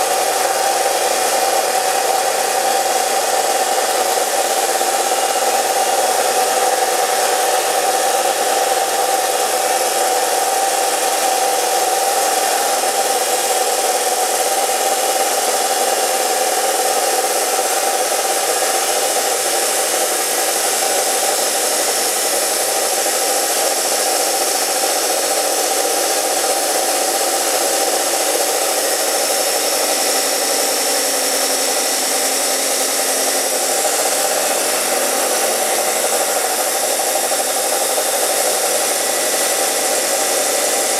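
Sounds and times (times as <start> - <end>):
cut-off saw cutting steel: 0.0 - 40.9.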